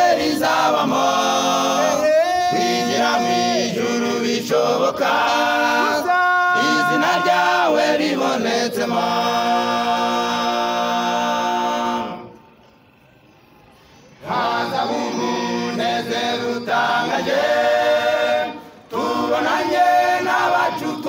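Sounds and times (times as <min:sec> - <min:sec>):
choir singing long notes: 0:00.0 - 0:12.8, 0:14.2 - 0:21.0.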